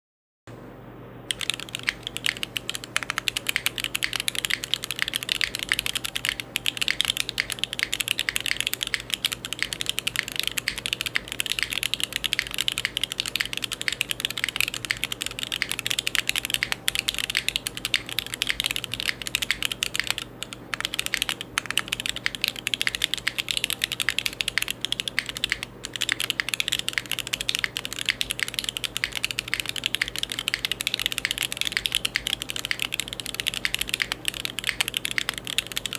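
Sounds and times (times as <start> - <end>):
mechanical keyboard key clacks: 1.3 - 35.9.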